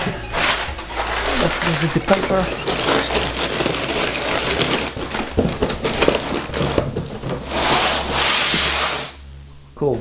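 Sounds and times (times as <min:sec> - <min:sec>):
handling knocks: 0:00.0 - 0:09.0
packing paper rustling: 0:00.0 - 0:09.2.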